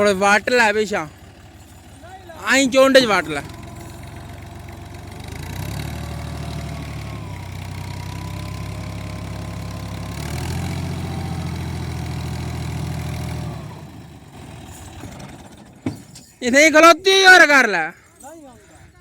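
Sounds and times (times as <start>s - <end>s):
tractor diesel engine revving: 0.0s - 16.9s.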